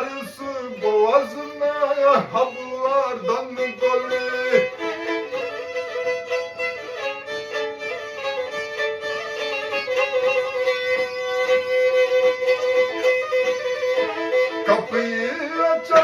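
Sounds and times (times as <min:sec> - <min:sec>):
bowed fiddle playing runs: 0:00.0 - 0:16.0.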